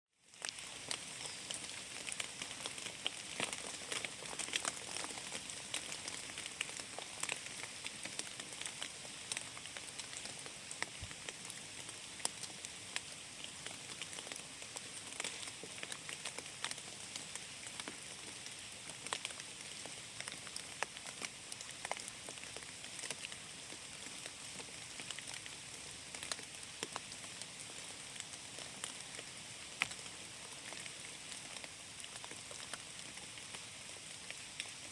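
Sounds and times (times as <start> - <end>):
rain pattering on leaves: 0.2 - 34.9.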